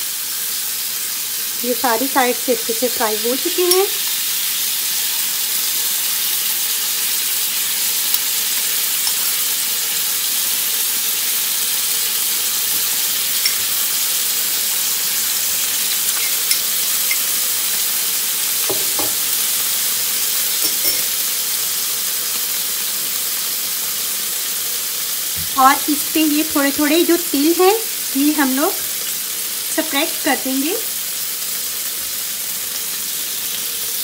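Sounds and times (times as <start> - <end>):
meat sizzling in hot oil: 0.0 - 34.0.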